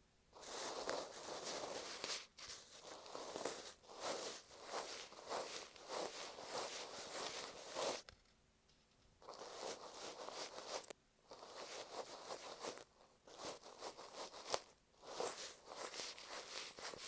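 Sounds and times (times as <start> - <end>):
brush rustling over microphone: 0.4 - 8.1, 9.2 - 17.0.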